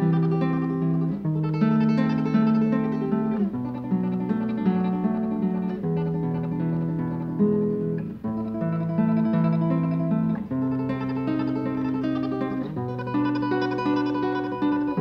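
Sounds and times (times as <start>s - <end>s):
classical guitar fingerstyle tremolo: 0.0s - 15.0s.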